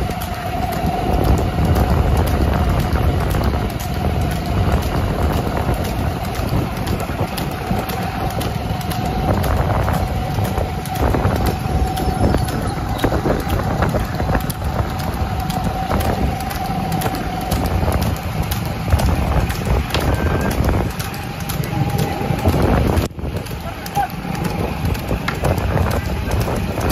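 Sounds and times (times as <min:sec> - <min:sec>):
motorcycle running at speed: 0:00.0 - 0:26.9
steady high hum: 0:00.0 - 0:26.9
wind buffeting microphone: 0:00.0 - 0:26.9.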